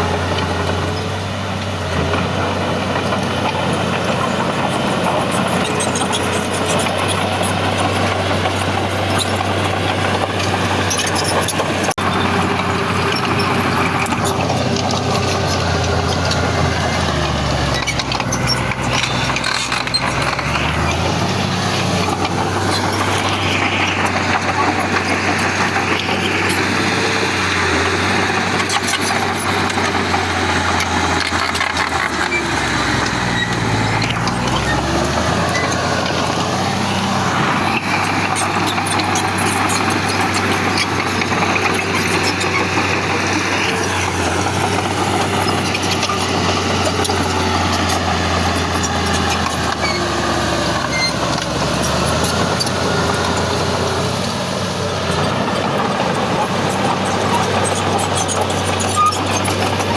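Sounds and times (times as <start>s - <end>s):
continuous clatter: 0.0s - 59.9s
heavy diesel engine running: 0.0s - 59.9s.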